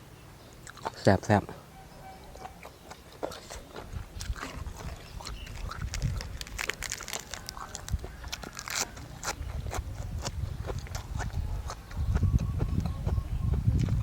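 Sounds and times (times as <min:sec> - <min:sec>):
person chewing food: 0:00.6 - 0:01.0, 0:02.3 - 0:14.0.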